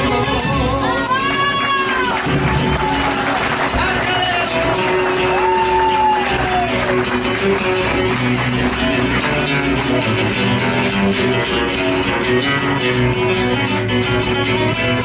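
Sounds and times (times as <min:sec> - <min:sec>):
strummed acoustic guitars: 0:00.0 - 0:15.0.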